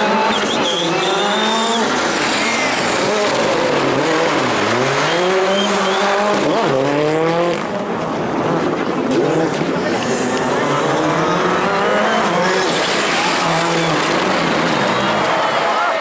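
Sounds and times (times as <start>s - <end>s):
rally car engine revving: 0.0s - 15.6s.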